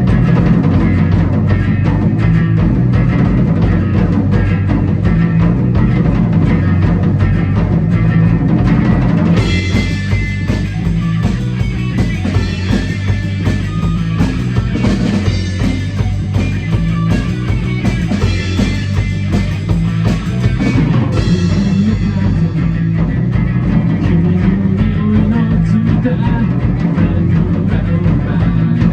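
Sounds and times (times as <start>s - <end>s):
rock band playing: 0.0s - 28.9s.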